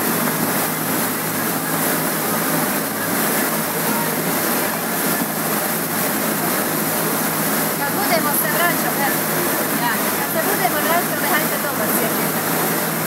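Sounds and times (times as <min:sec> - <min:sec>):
boat motor running: 0:00.0 - 0:13.0
water rushing along hull: 0:00.0 - 0:13.0.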